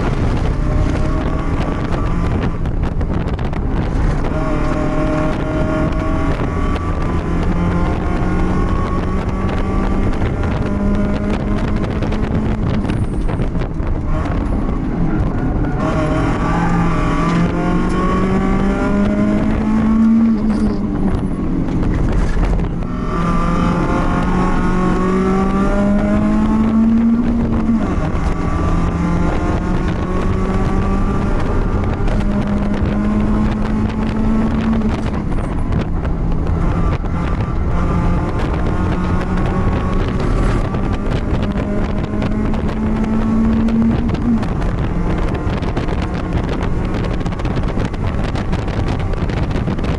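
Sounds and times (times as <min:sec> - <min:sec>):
race car engine accelerating: 0:00.0 - 0:49.9.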